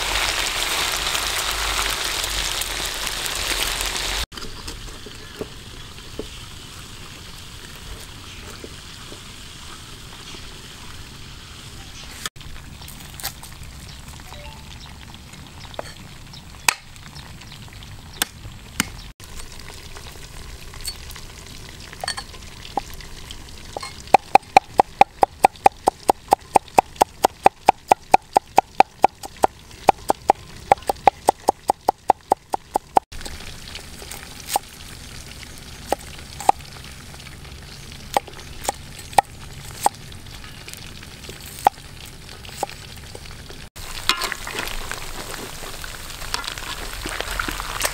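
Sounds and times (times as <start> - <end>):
oil sizzling: 0.0 - 18.5, 19.2 - 47.9.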